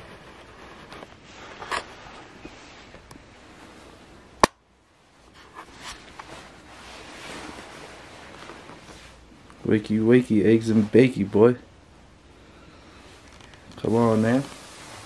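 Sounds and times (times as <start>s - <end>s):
rustling and handling noises: 0.0s - 4.3s, 5.1s - 11.6s, 12.7s - 15.0s.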